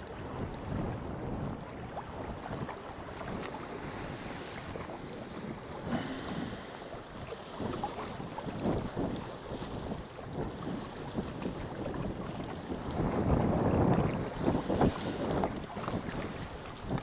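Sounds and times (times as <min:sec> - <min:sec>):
waves lapping against rocks: 0:00.0 - 0:17.0
wind buffeting microphone: 0:00.0 - 0:17.0.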